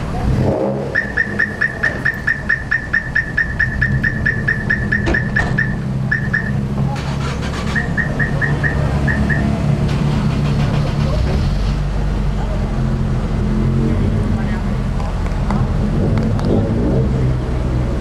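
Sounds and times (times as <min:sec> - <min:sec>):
car engine idling: 0:00.0 - 0:16.5.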